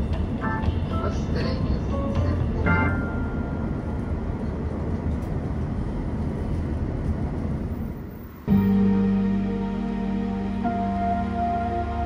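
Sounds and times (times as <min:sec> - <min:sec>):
vehicle running rumble: 0:00.0 - 0:12.0.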